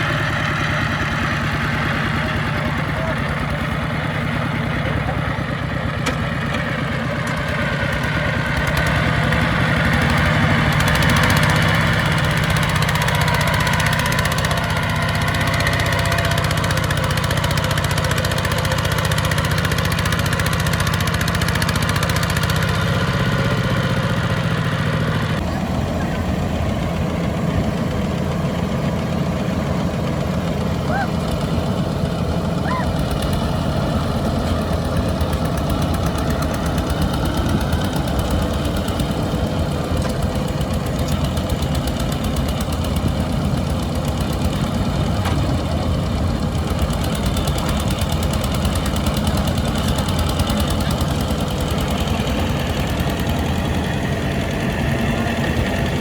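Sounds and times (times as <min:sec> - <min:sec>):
farm machinery engines running: 0:00.0 - 0:56.0.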